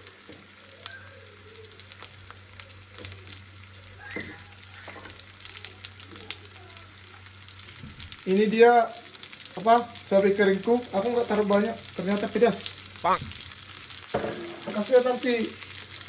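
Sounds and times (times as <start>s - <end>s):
sizzling and crackling in oil: 0.0s - 16.0s.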